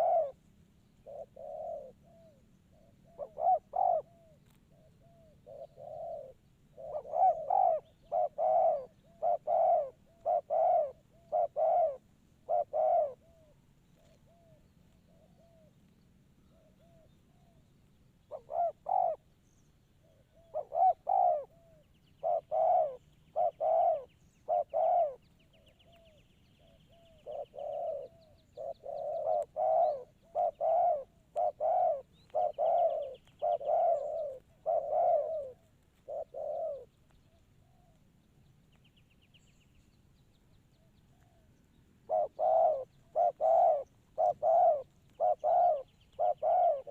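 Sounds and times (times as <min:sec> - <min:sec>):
dove cooing: 0:00.0 - 0:17.6, 0:18.2 - 0:19.3, 0:20.0 - 0:38.0, 0:40.7 - 0:46.9
faint high bird chirps: 0:00.0 - 0:46.9.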